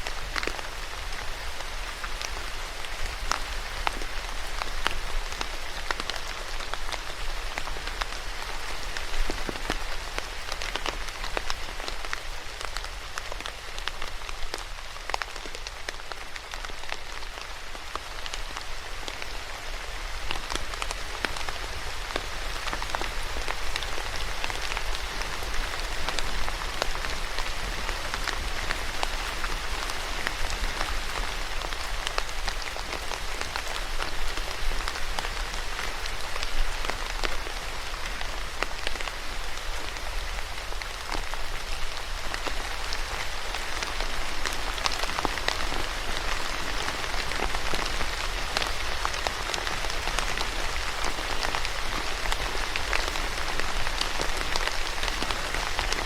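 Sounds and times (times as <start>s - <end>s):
steady rain with pattering drops: 0.0s - 56.0s.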